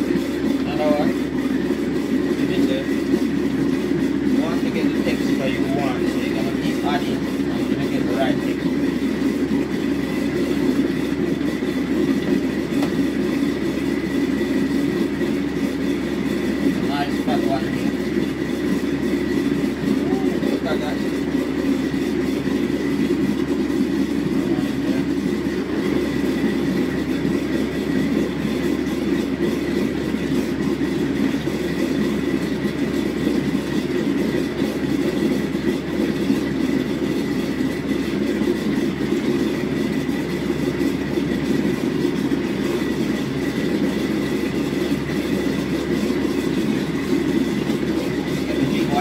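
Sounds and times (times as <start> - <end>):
blender motor running: 0.0 - 49.0.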